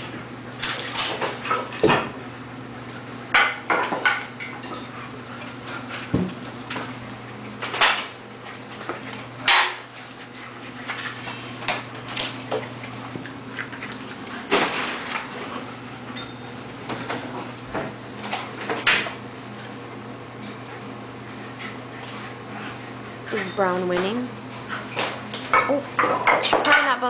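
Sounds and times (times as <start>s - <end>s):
dogs play-fighting: 0.0s - 26.8s.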